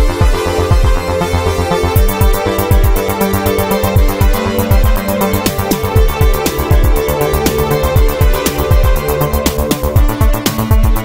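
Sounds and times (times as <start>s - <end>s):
sustained synth chords: 0.0s - 11.0s
synth kick drums: 0.0s - 11.0s.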